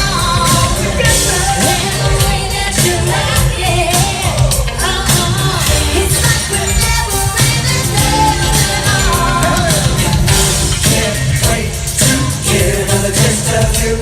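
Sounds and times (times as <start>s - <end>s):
live pop music with singing: 0.0s - 14.0s.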